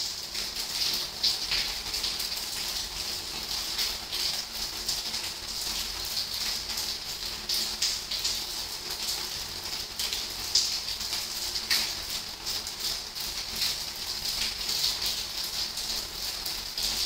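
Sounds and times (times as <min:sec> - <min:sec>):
rain falling: 0:00.0 - 0:17.0
raindrops pattering: 0:00.0 - 0:17.0.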